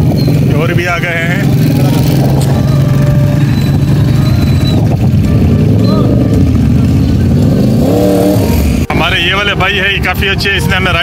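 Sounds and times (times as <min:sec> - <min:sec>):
motorcycle engines passing: 0:00.0 - 0:11.0.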